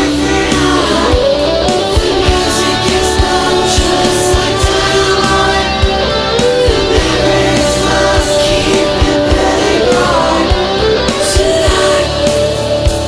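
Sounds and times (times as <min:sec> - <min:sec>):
electric guitars: 0:00.0 - 0:13.0
melodic lead guitar line: 0:00.0 - 0:13.0
drum beat: 0:00.6 - 0:13.0.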